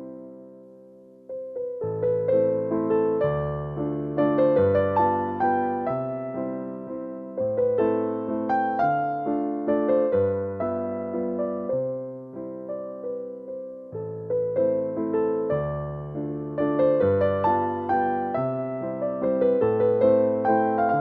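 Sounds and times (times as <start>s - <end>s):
gentle piano piece: 0.0s - 21.0s.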